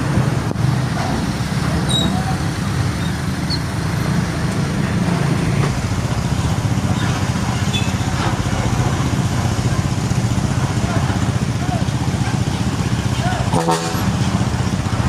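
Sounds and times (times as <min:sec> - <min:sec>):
heavy road traffic: 0:00.0 - 0:15.0
truck diesel engine rumbling: 0:00.0 - 0:15.0.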